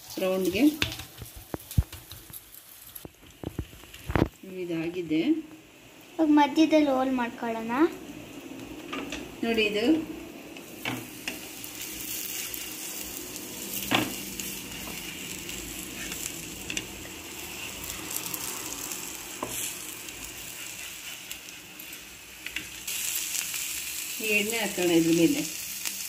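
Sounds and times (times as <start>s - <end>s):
flatbread sizzling on a pan: 0.0s - 26.0s.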